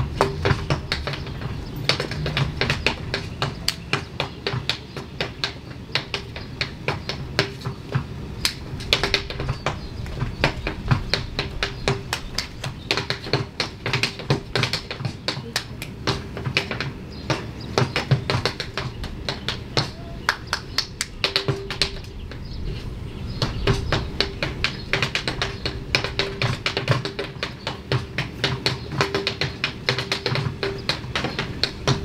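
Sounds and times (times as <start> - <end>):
dance shoes tapping on stage floor: 0.0 - 22.4, 23.4 - 32.0.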